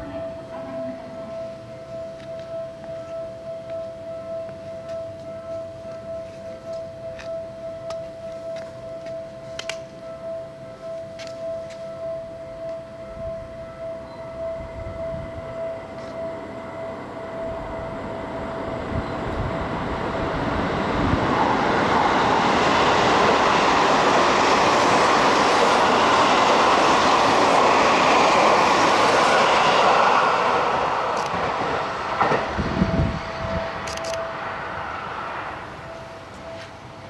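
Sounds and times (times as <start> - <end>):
train wheels roaring on rails: 0.0 - 37.0.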